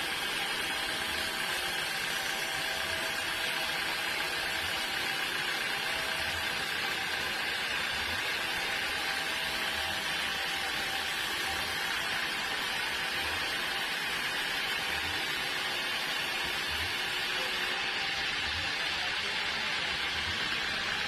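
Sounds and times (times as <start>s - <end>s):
sawmill machinery hissing: 0.0s - 21.0s.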